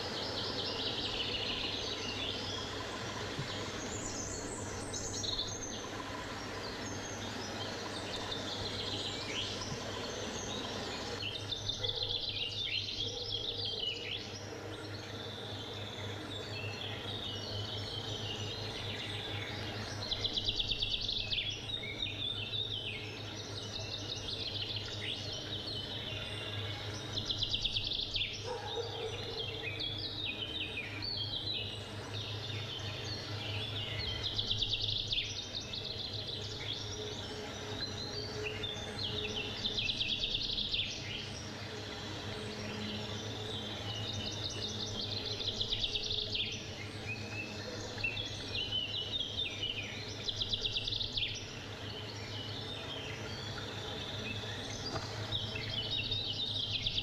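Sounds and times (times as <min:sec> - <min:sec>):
birds singing trilled notes: 0:00.0 - 0:57.0.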